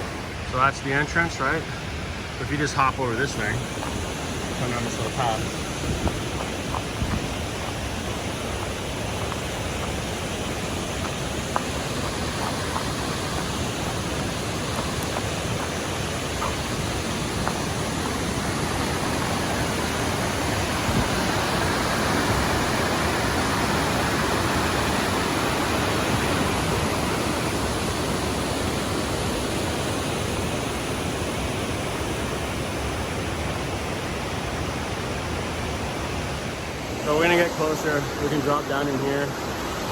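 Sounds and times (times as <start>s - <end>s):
water rushing down creek cascade: 0.0s - 39.9s.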